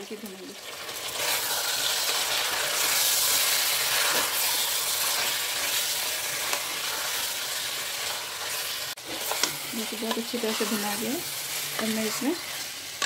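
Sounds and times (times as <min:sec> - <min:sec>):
meat sizzling in hot oil: 0:00.0 - 0:13.0
spatula scraping and stirring: 0:00.7 - 0:13.0.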